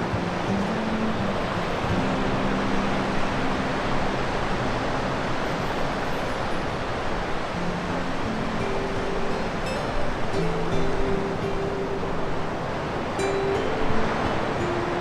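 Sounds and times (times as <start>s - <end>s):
faint background music: 0.0s - 15.0s
steady rushing noise: 0.0s - 15.0s.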